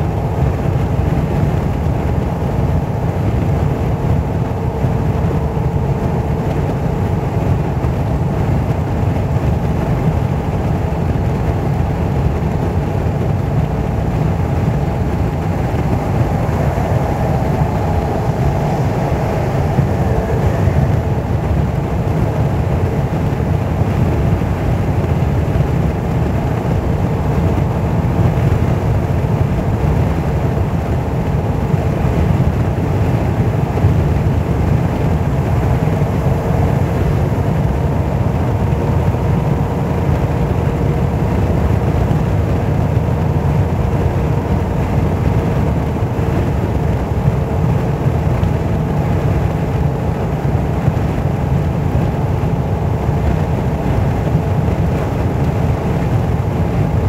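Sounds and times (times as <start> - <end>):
car road and tyre noise: 0.0 - 57.0
faint steady hum: 0.0 - 57.0.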